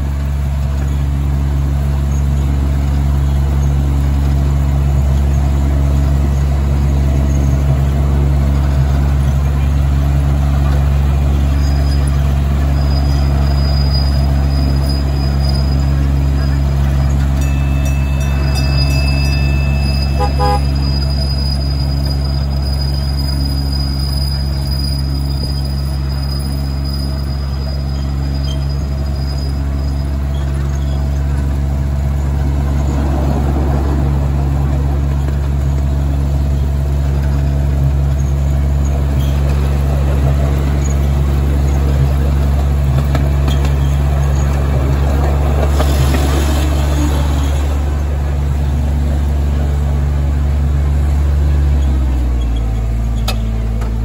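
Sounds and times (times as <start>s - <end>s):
miniature train drone: 0.0s - 54.0s
wheels on track: 0.0s - 54.0s.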